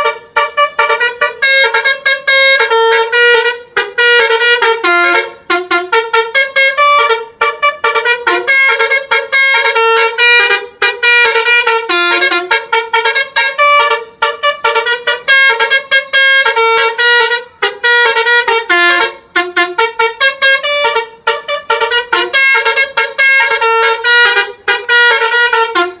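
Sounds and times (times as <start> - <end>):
bus horn playing melody: 0.0 - 26.0.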